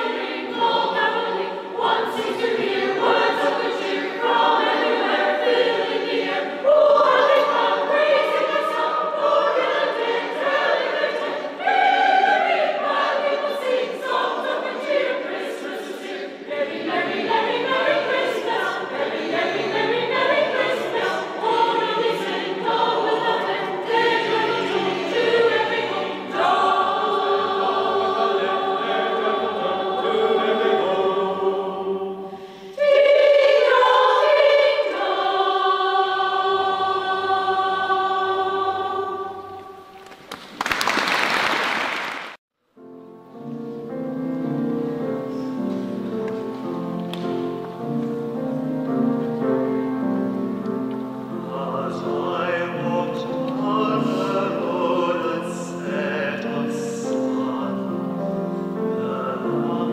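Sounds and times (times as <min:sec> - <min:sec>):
choir singing a carol: 0:00.0 - 0:40.2, 0:43.4 - 0:59.9.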